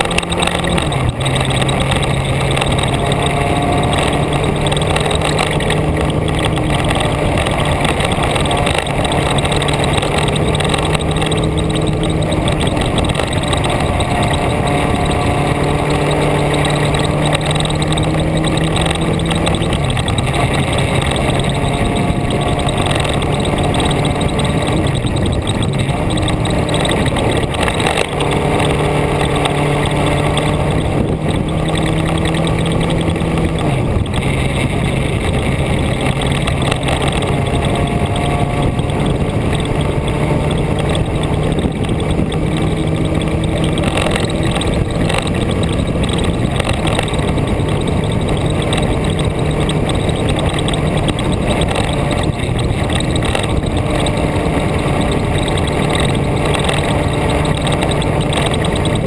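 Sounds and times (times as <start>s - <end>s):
vehicle engine under power: 0.0s - 59.0s
wind and road rush: 0.0s - 59.0s.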